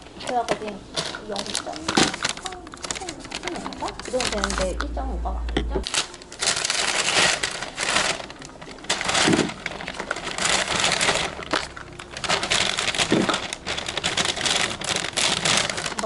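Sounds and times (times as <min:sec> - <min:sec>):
paper bag rustling and crinkling: 0:00.0 - 0:04.8, 0:05.8 - 0:16.0
boxes packed into bag: 0:01.0 - 0:04.7, 0:05.8 - 0:16.0.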